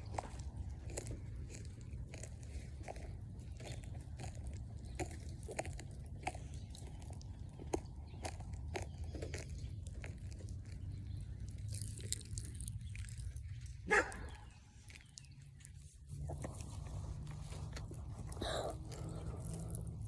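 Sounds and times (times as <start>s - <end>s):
popping candy crackling: 0.0s - 13.7s, 17.6s - 20.0s.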